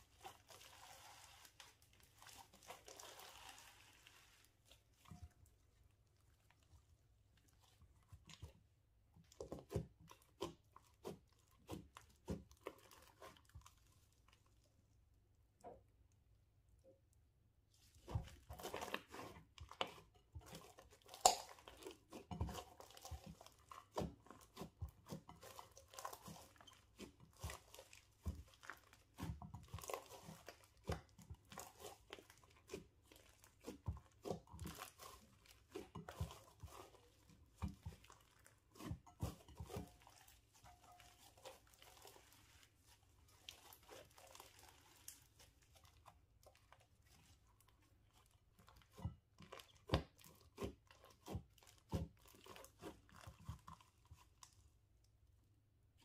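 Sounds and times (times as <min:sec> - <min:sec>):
slime squelching and popping: 0:00.0 - 0:56.0.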